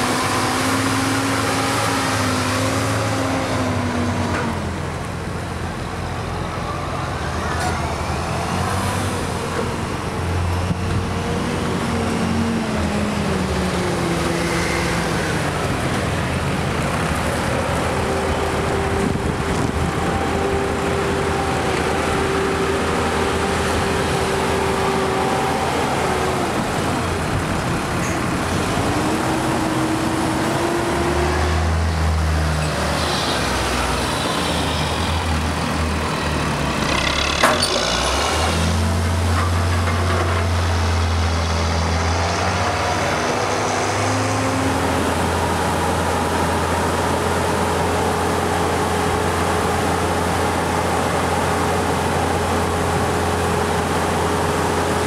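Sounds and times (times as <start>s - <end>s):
deeper heavier engine: 0.0s - 55.0s
tractor diesel engines working: 0.0s - 55.0s.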